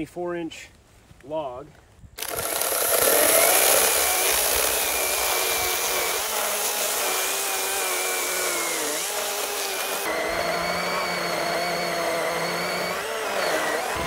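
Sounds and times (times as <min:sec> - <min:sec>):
chain rasping through wood: 0:02.2 - 0:14.0
electric chainsaw motor whine: 0:02.2 - 0:14.0.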